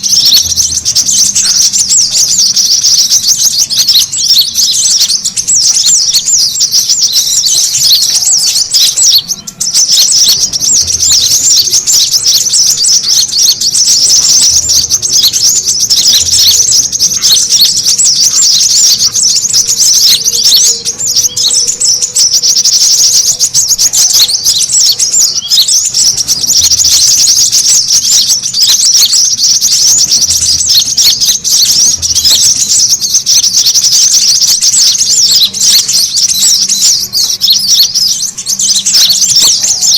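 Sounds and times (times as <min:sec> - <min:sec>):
sunbird chattering chirps: 0:00.0 - 0:39.9.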